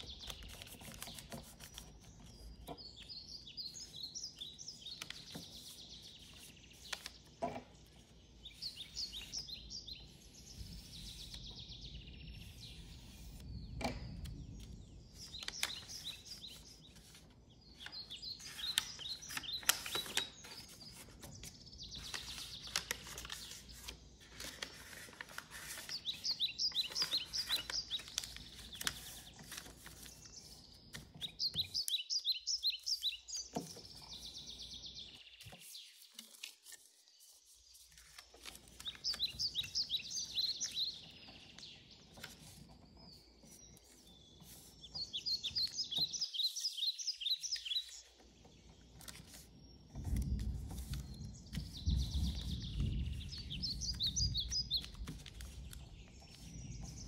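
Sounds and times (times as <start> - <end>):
small bird chirping: 0.0 - 24.5, 25.5 - 57.0
paper being folded: 0.0 - 57.0.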